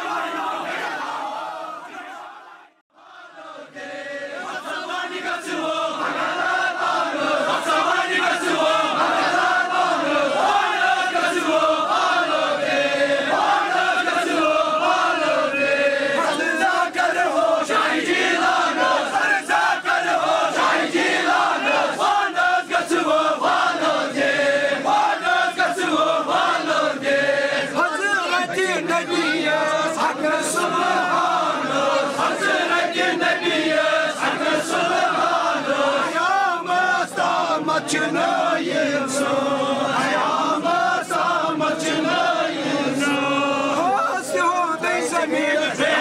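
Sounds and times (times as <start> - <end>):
crowd of men chanting: 0.0 - 46.0.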